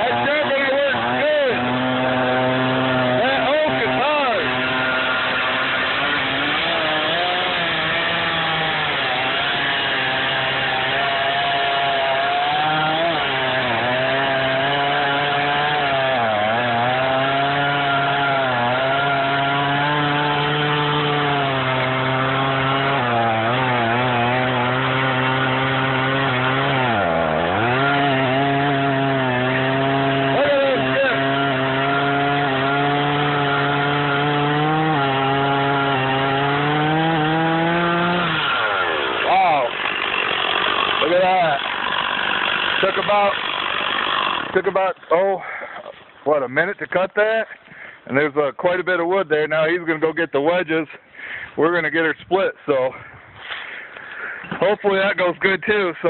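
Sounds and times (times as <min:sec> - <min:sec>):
chainsaw cutting log: 0:00.0 - 0:48.0, 0:52.8 - 0:56.0.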